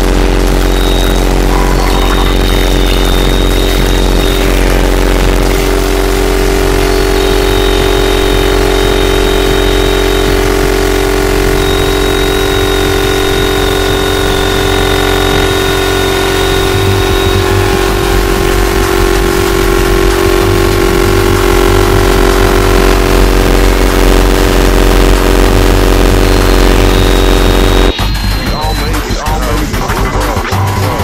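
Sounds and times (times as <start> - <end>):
harsh noise music drone: 0.0 - 31.0.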